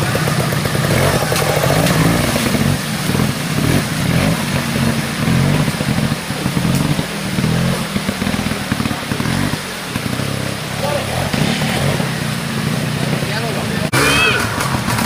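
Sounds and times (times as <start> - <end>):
motorcycle engine revving: 0.0 - 15.0
water splashing and rushing: 0.0 - 15.0.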